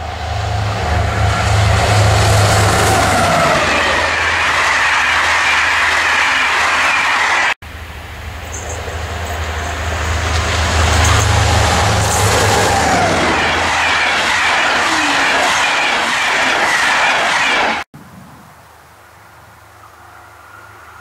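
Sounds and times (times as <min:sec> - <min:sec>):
diesel locomotive engine drone: 0:00.0 - 0:17.9, 0:19.0 - 0:21.0
train approaching: 0:00.0 - 0:17.9, 0:19.6 - 0:21.0
train coaches rushing on rails: 0:00.0 - 0:17.9.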